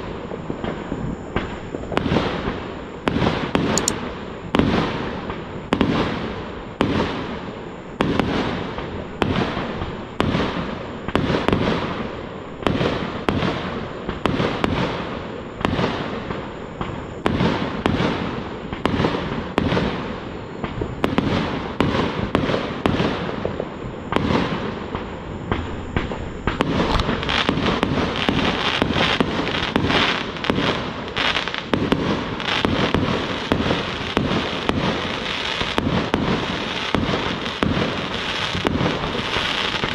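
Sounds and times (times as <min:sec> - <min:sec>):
fireworks bursting overhead: 0:00.0 - 0:39.9.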